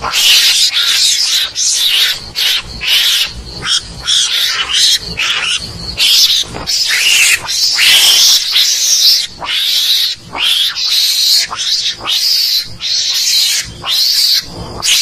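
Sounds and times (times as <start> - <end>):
mongoose raspy high-pitched calls: 0.0 - 15.0.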